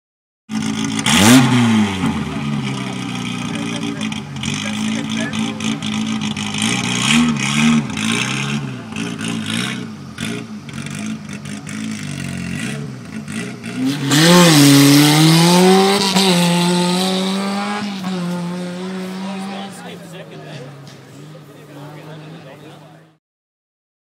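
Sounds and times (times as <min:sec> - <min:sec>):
car engine revving: 0:00.5 - 0:23.2.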